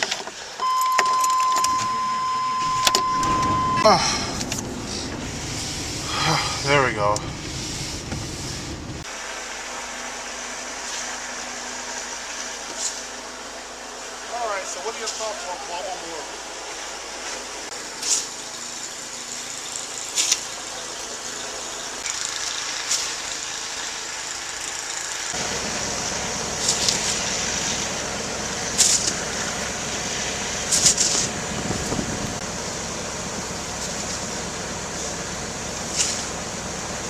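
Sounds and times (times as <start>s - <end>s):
van engine running: 0.0s - 37.0s.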